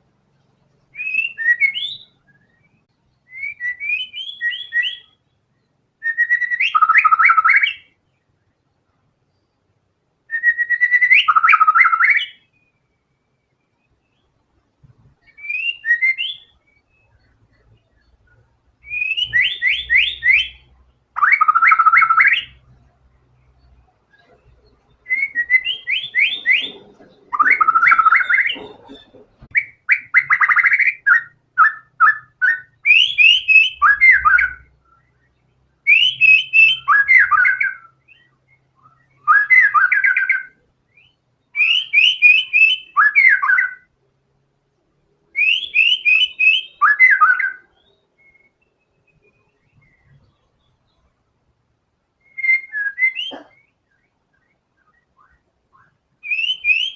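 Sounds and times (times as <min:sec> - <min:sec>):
songbird whistling: 0:00.9 - 0:08.0, 0:10.2 - 0:14.4, 0:15.1 - 0:22.7, 0:23.4 - 0:43.9, 0:45.3 - 0:51.1, 0:52.2 - 0:56.9.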